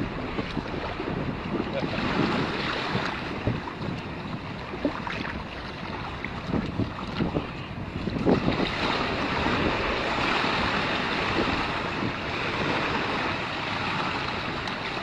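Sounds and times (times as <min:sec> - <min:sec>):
surf washing: 0:00.0 - 0:15.0
wind buffeting microphone: 0:00.0 - 0:15.0.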